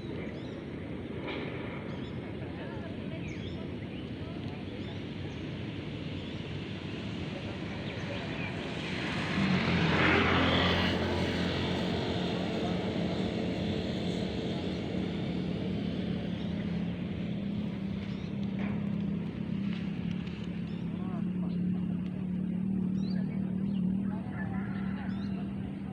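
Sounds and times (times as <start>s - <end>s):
engine humming steadily: 0.0s - 25.9s.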